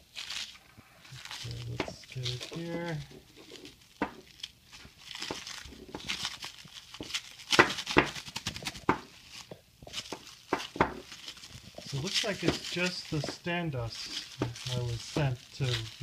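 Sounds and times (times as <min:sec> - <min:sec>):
plastic wrap crinkling: 0:00.0 - 0:16.0.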